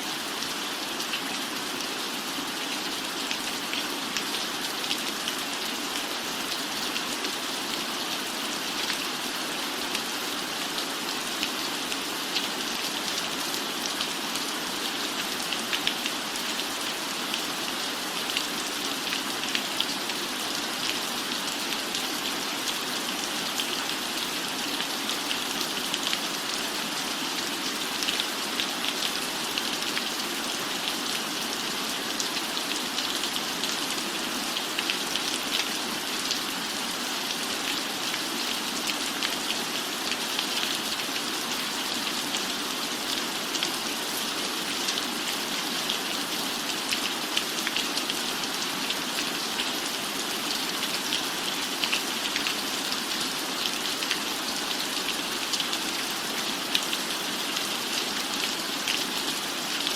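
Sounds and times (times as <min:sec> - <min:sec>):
rain falling on a roof: 0:00.0 - 0:59.9.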